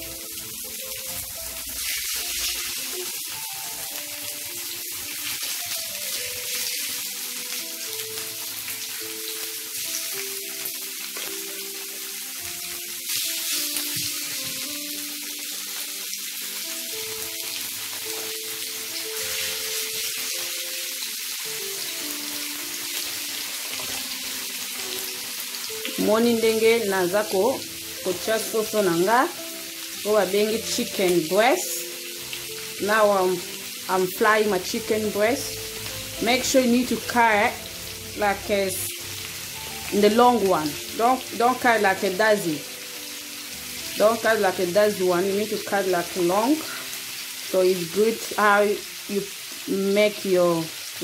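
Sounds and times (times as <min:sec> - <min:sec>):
background music: 0:00.0 - 0:51.0
meat sizzling in a frying pan: 0:00.0 - 0:51.0.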